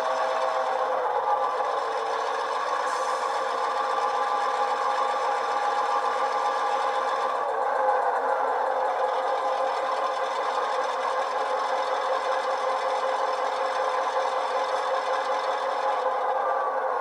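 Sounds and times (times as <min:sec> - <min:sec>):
model locomotive diesel engine sound: 0:00.0 - 0:17.0.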